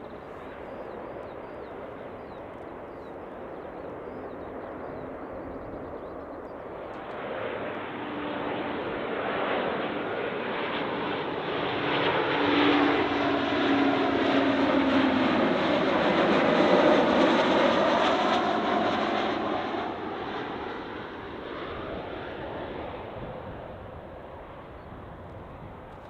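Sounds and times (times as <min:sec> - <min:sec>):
airliner passing low overhead: 0:00.0 - 0:26.0.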